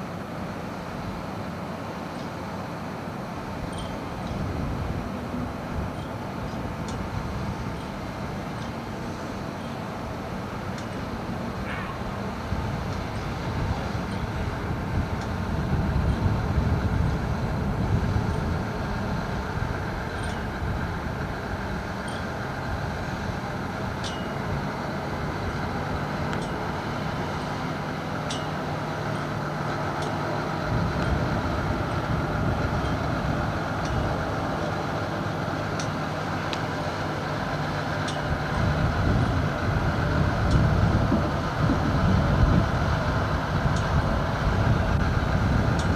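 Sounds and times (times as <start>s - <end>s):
engines droning: 0.0s - 45.9s.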